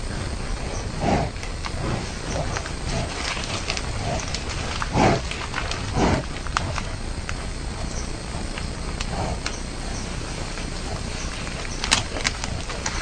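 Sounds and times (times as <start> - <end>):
rhinoceros snorting: 0.0 - 13.0
twigs and leaves crackling: 1.4 - 13.0.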